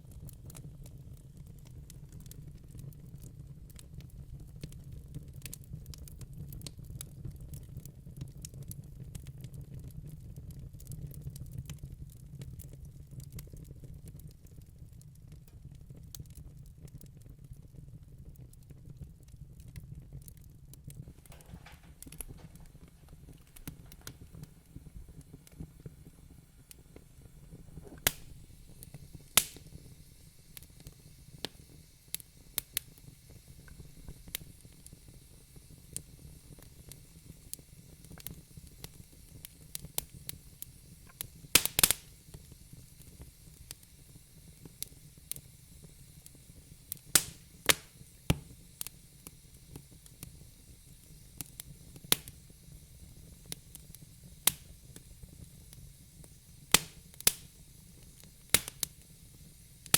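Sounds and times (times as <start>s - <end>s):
faint low hiss: 0.0s - 59.9s
wood fire crackling: 0.0s - 59.9s.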